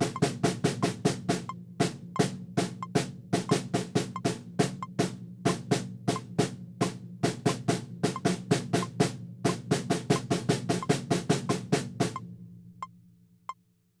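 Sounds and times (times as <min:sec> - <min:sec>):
snare drum strokes: 0:00.0 - 0:12.2.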